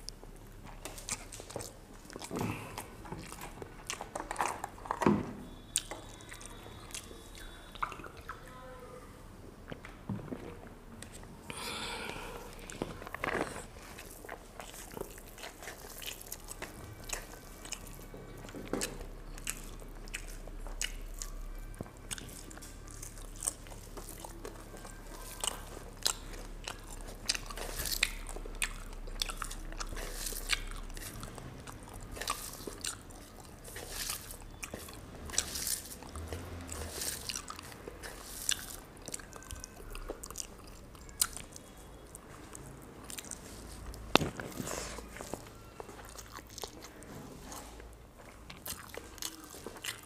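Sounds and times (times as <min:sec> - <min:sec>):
person chewing food: 0:00.0 - 0:08.5, 0:09.6 - 0:50.0.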